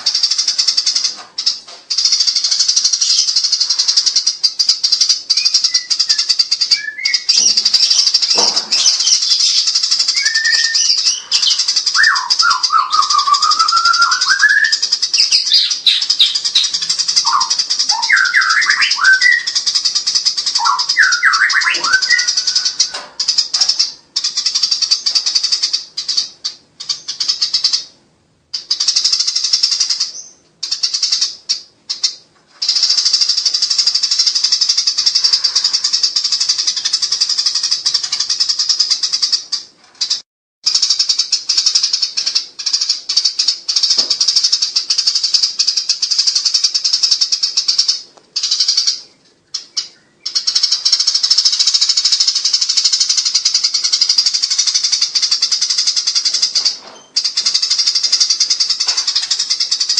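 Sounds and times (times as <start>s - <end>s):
sparrows chattering: 0.0s - 59.9s.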